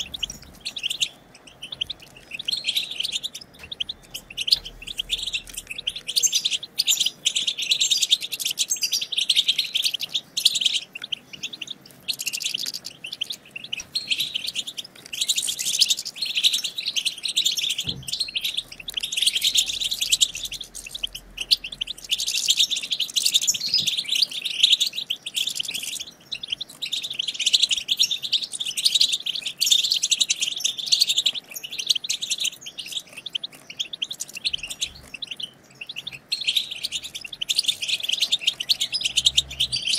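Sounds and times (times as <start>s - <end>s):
goldfinches chattering: 0.0s - 39.9s.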